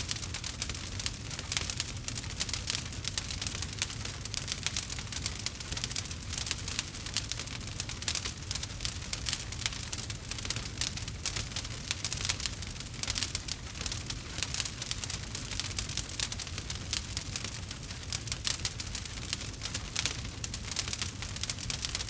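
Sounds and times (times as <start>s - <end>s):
campfire crackling and popping: 0.0s - 22.0s
low rumble of flames: 0.0s - 22.0s.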